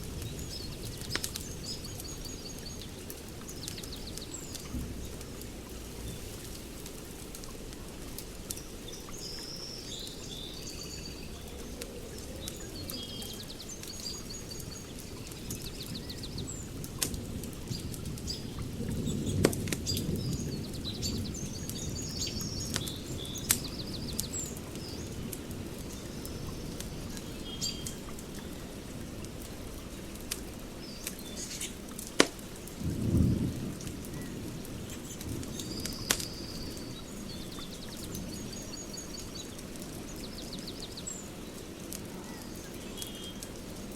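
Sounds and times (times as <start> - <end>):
small birds chirping: 0.0 - 32.2, 33.0 - 43.9
wood fire crackling: 0.0 - 43.9.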